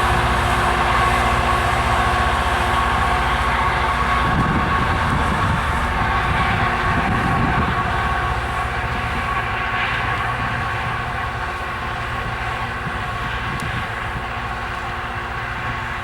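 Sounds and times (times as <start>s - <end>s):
rail grinder diesel engines droning: 0.0s - 16.0s.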